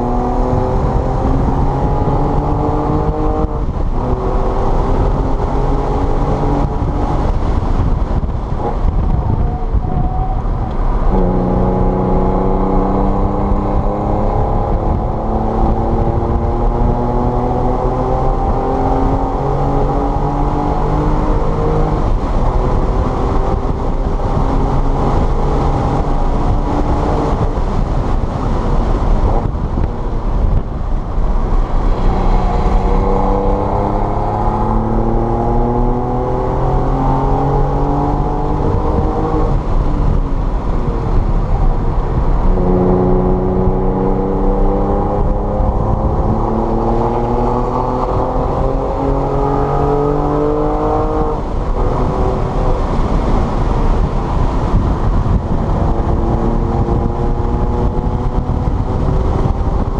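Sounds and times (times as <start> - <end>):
car engine accelerating: 0.0 - 59.9
road and tyre noise: 0.0 - 59.9.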